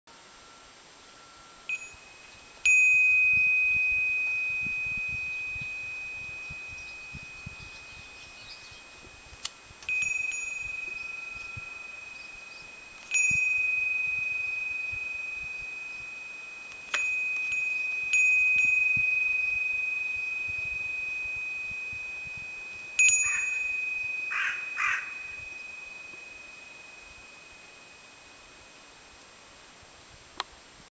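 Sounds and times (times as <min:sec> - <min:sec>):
wind bell ringing: 0:00.2 - 0:29.2.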